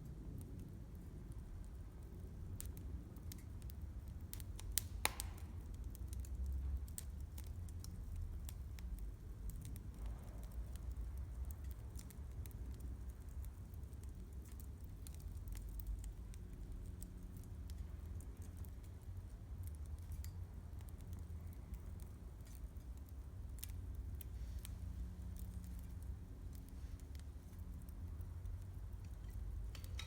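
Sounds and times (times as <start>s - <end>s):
campfire crackling and popping: 0.0s - 30.0s
low fire rumble: 0.0s - 30.0s.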